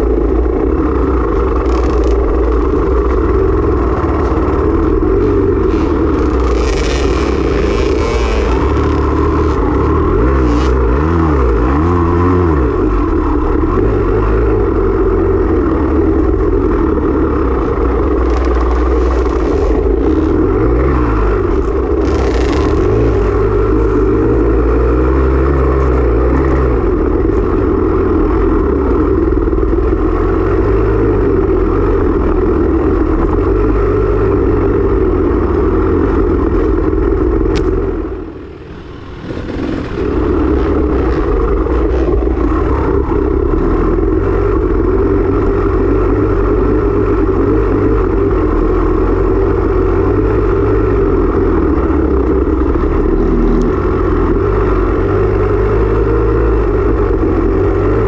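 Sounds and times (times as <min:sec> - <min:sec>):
off-road motorcycle engine running: 0:00.0 - 0:58.0.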